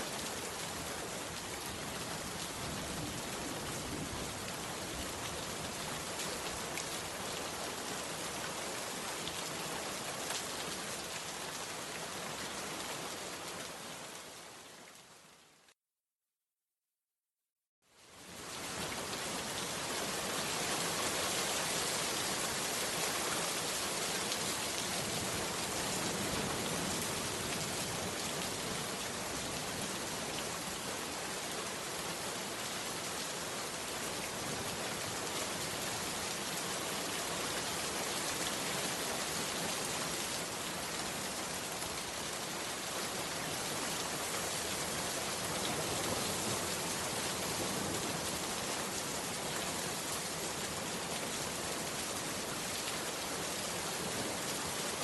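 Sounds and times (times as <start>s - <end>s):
heavy rain: 0.0s - 15.7s, 17.9s - 55.0s.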